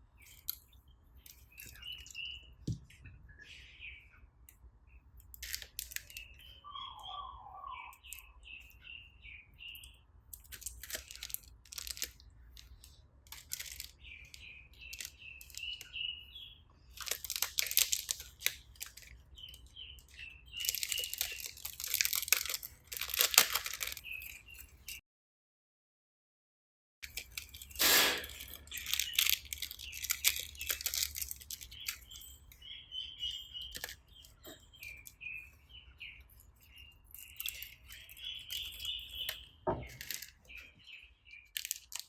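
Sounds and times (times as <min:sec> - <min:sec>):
bird chirping: 0:00.0 - 0:25.0, 0:27.1 - 0:42.0.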